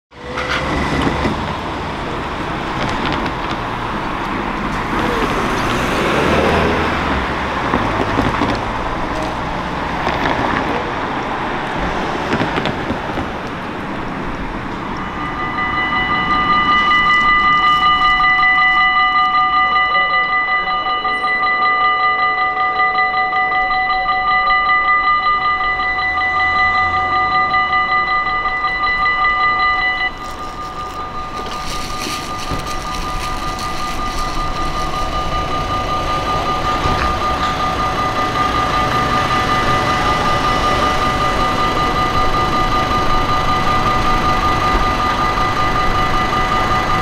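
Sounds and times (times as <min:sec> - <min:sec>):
cars driving past: 0:00.1 - 0:19.8, 0:24.2 - 0:47.0
crossing warning bells ringing: 0:00.1 - 0:47.0.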